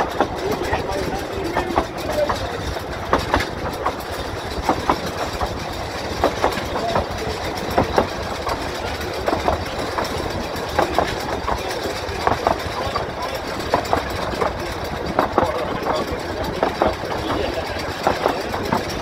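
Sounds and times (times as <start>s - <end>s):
wheels clicking over rail joints: 0.0s - 19.0s
wheels rumbling on rail: 0.0s - 19.0s.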